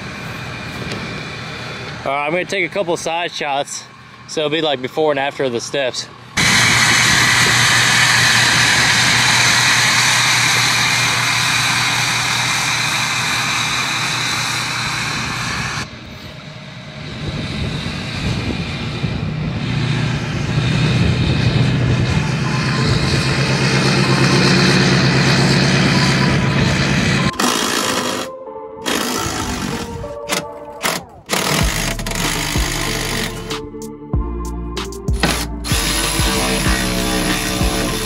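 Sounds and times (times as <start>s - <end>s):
mechanical drone: 0.0s - 38.0s.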